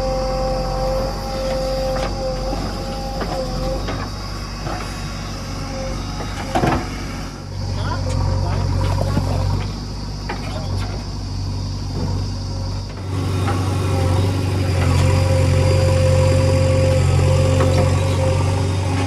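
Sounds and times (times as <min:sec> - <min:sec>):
diesel engine running: 0:00.0 - 0:19.0
high-pitched whine: 0:00.0 - 0:19.0.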